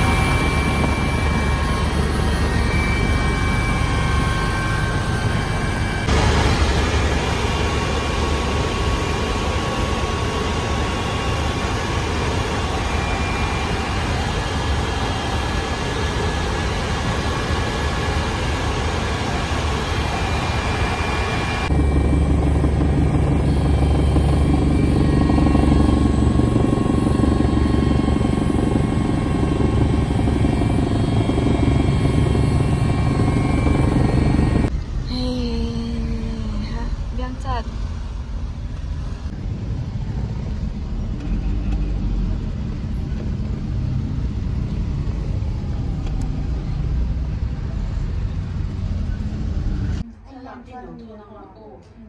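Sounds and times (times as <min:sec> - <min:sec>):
helicopter engine and rotor droning: 0:00.0 - 0:50.1.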